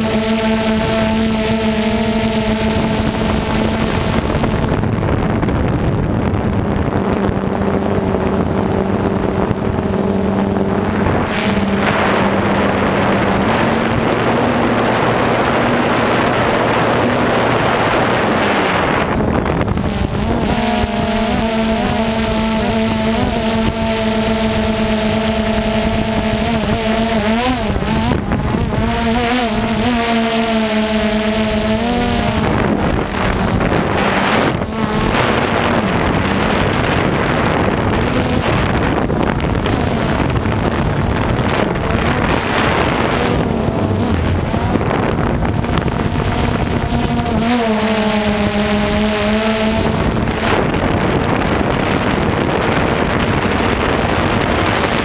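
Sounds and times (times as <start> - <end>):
drone propellers buzzing: 0.0 - 55.0
wind rushing over microphone: 0.0 - 55.0.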